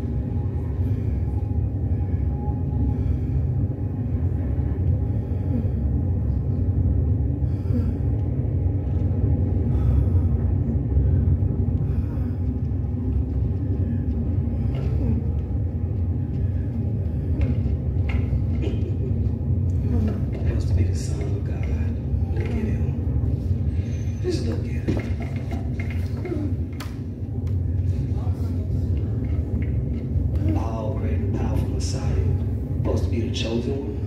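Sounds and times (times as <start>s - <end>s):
low rumble: 0.0s - 34.0s.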